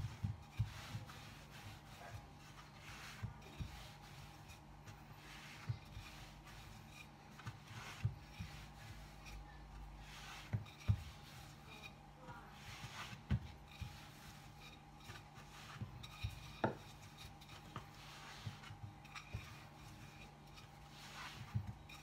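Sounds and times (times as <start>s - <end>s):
rolling pin rubbing on dough: 0.0s - 22.0s.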